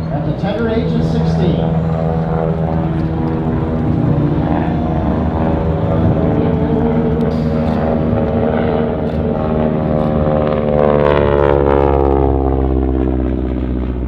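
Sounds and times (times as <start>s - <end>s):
propeller plane flying past: 0.0s - 14.0s.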